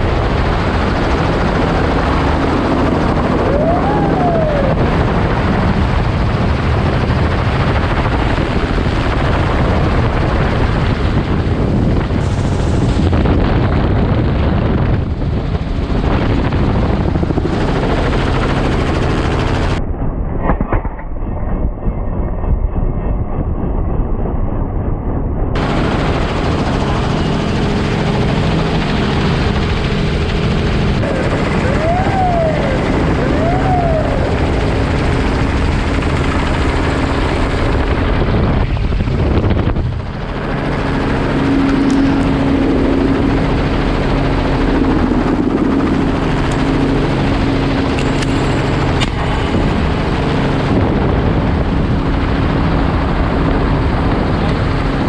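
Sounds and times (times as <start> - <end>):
helicopter rotor and engine: 0.0 - 55.0.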